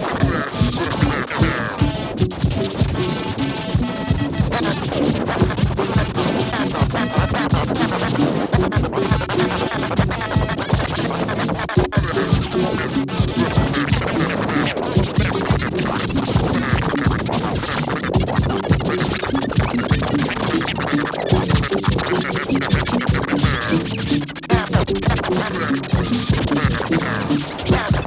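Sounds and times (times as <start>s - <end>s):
dense scratching: 0.0s - 28.0s
noise music: 0.0s - 28.0s
rapid clicks: 0.0s - 28.0s.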